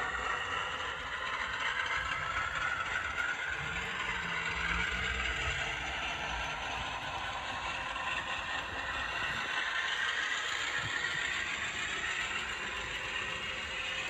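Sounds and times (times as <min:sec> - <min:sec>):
model train wheels clattering: 0:00.0 - 0:14.0.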